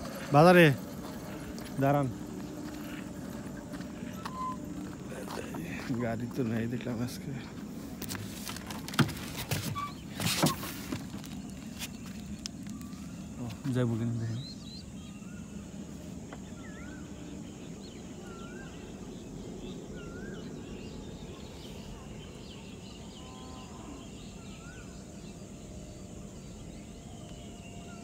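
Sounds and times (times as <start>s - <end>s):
low outdoor background noise: 0.0s - 28.0s.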